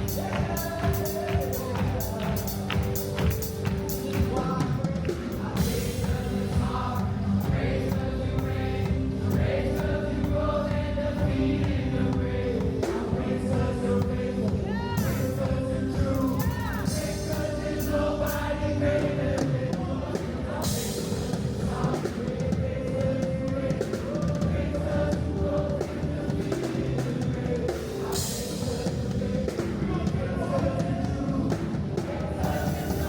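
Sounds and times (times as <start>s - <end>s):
band playing: 0.0s - 33.0s
choir singing gospel: 0.0s - 33.0s.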